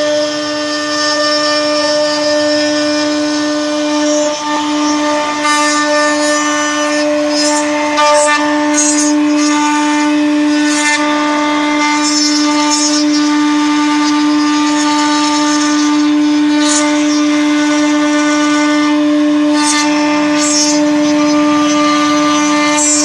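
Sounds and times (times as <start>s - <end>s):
hiss of wood cutting: 0.0s - 23.0s
router spindle whine: 0.0s - 23.0s.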